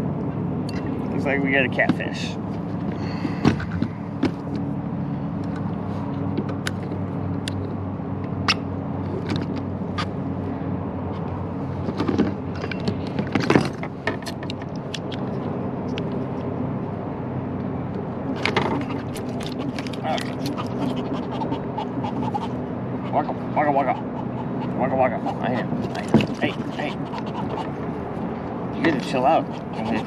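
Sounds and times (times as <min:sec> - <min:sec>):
steady engine hum: 0:00.0 - 0:30.0.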